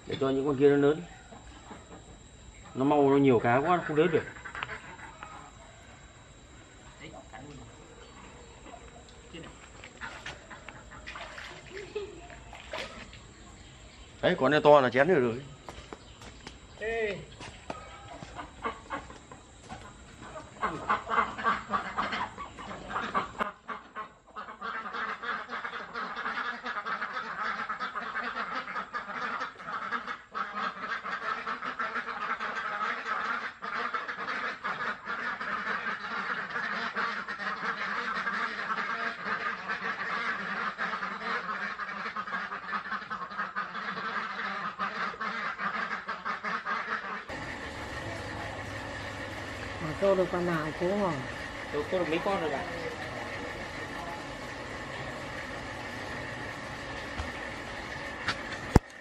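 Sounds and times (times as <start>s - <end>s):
ducks quacking: 2.6s - 6.0s, 7.1s - 59.0s.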